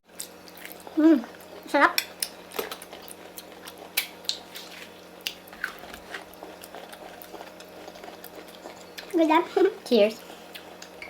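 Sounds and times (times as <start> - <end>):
person chewing food: 0.1 - 9.2, 10.2 - 11.0.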